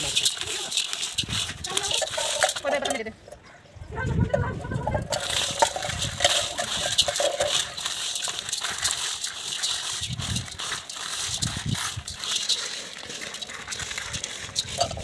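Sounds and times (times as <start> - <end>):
seeds rattling in metal basin: 0.0 - 3.4, 4.2 - 15.0.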